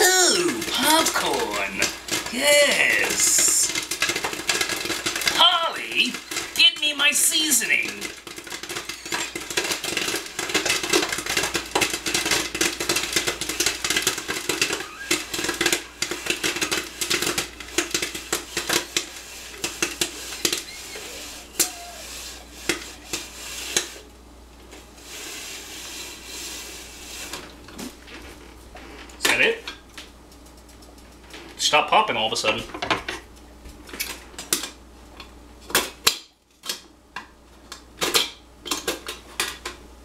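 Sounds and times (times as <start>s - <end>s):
popcorn popping: 0.0s - 39.9s.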